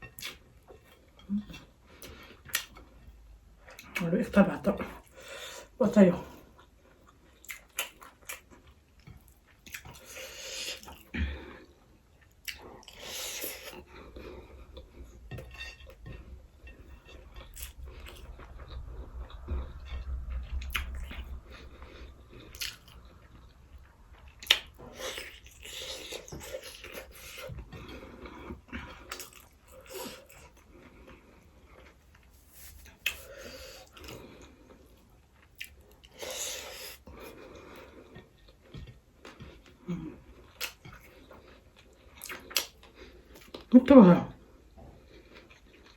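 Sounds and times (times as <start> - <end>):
chewing and smacking: 0.1 - 4.1, 6.3 - 43.7, 44.6 - 45.9.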